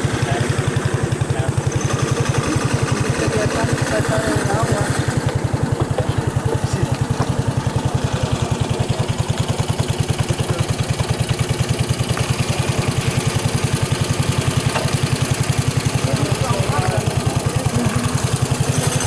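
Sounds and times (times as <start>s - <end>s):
engine running with low throb: 0.0s - 19.0s.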